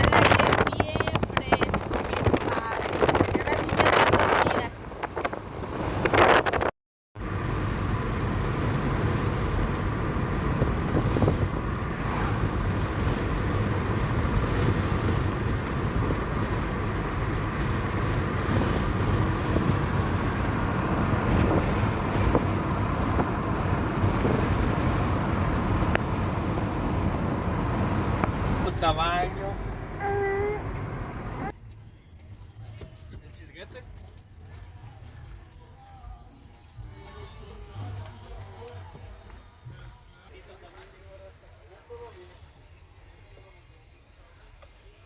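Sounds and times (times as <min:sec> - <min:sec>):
car road and engine noise: 0:00.0 - 0:39.7.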